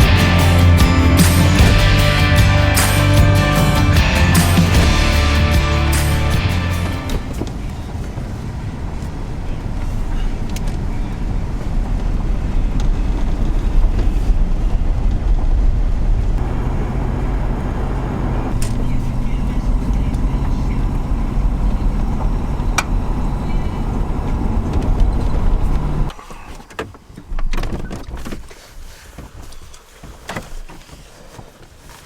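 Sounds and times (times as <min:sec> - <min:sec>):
vehicle engine and road rumble: 0:00.0 - 0:26.2.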